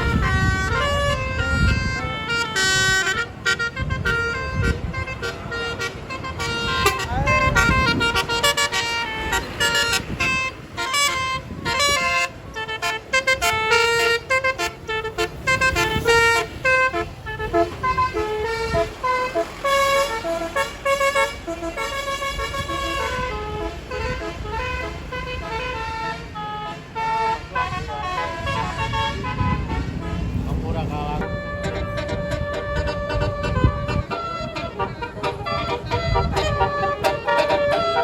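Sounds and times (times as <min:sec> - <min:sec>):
musical air horn honking: 0:00.0 - 0:38.0
vehicle engine rumbling: 0:00.0 - 0:38.0.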